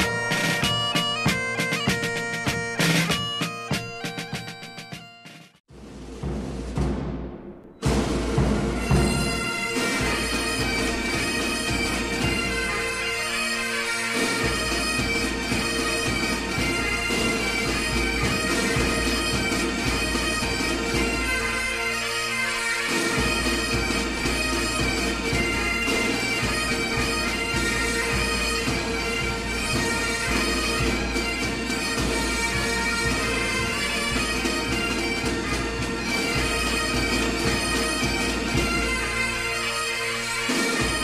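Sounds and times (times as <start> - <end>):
bagpipe tune over drone: 0.0 - 5.4, 8.8 - 41.0.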